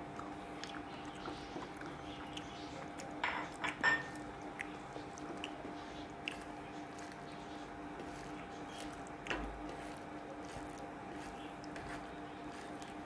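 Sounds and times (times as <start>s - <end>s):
faint hum: 0.0s - 13.0s
fingers mixing food on plate: 0.2s - 13.0s.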